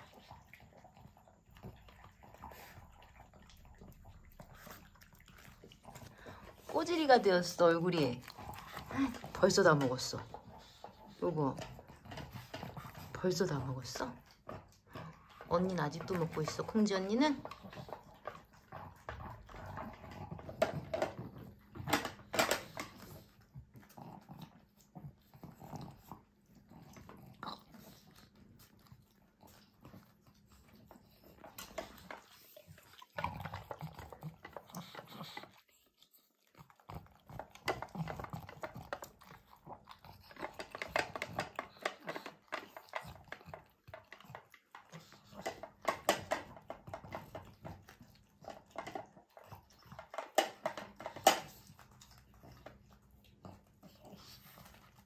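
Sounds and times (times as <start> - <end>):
dog eating and licking: 0.0 - 55.0.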